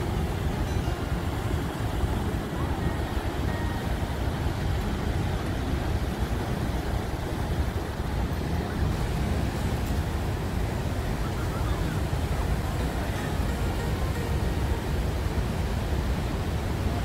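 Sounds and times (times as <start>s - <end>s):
rushing rapids: 0.0s - 17.0s
waterfall roaring: 0.0s - 17.0s.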